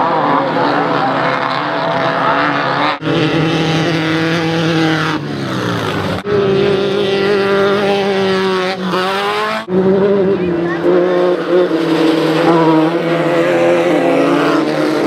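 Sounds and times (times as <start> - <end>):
buggy engines running hard: 0.0 - 15.0.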